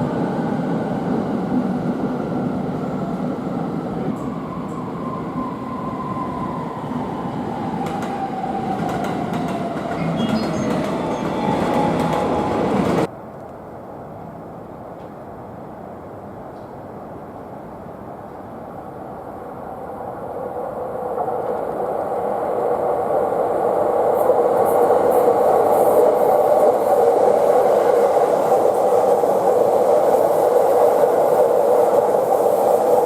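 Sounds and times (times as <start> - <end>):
train rumble: 0.0 - 13.1, 19.3 - 33.0.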